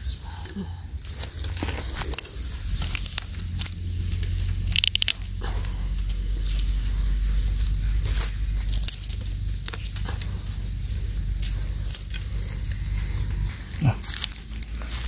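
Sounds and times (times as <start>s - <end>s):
dry bamboo rustling and crackling: 0.0s - 15.0s
low rumble: 0.0s - 15.0s
small snaps: 0.1s - 15.0s.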